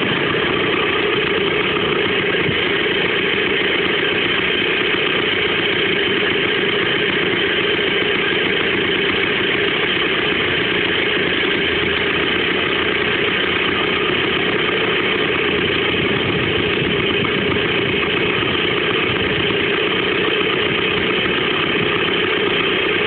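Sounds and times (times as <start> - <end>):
scooter engine idling: 0.0 - 23.0.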